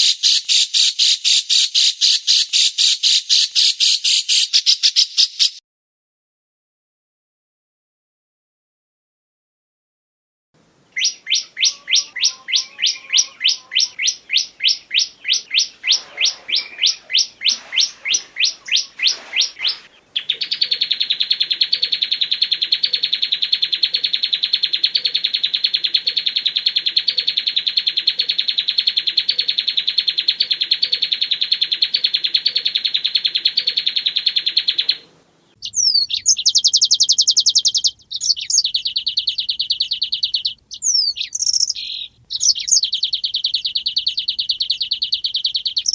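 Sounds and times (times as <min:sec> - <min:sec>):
bird chirping with sweeping notes: 0:00.0 - 0:05.6, 0:10.9 - 0:45.9
bird whistling and trilling: 0:00.0 - 0:05.6, 0:11.0 - 0:35.0, 0:35.6 - 0:45.9.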